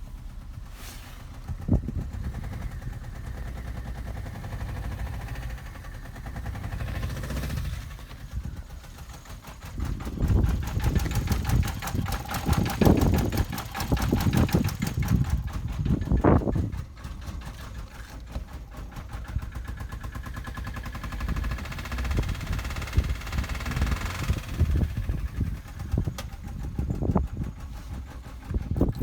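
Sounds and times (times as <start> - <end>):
petrol engine running rough: 0.0 - 29.0.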